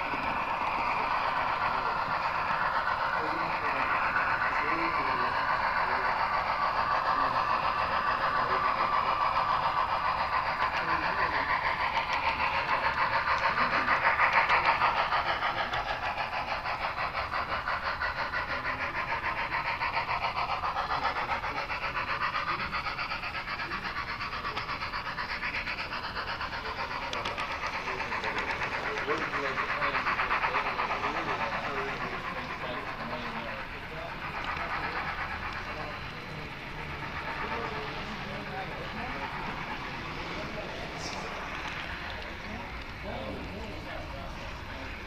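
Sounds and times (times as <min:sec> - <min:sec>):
model train rattling whir: 0:00.0 - 0:45.0.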